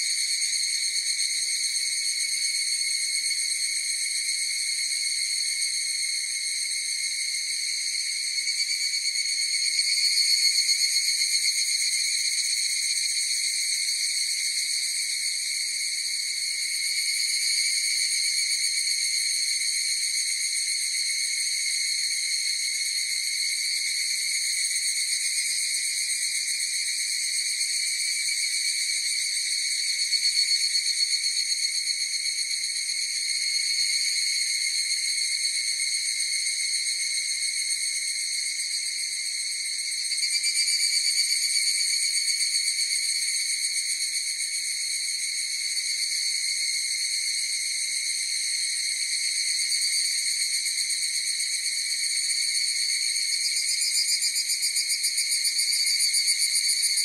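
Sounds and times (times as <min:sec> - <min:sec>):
cicadas chorus shrill drone: 0:00.0 - 0:57.0.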